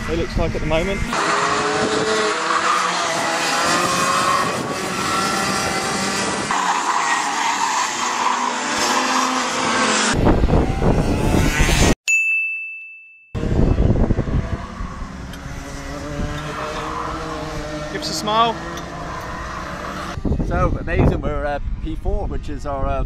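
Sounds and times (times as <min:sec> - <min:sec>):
racing kart engines: 0:00.0 - 0:12.0, 0:13.4 - 0:21.8.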